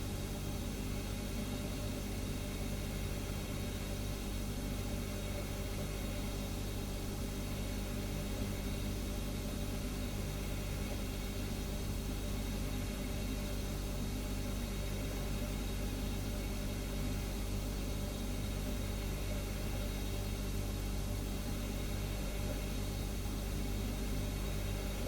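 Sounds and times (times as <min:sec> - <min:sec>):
refrigerator humming: 0:00.0 - 0:25.0.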